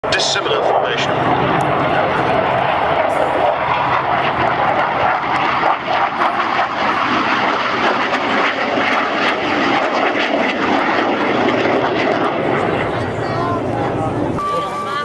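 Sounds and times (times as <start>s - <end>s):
aircraft engines flying past: 0.0s - 15.0s.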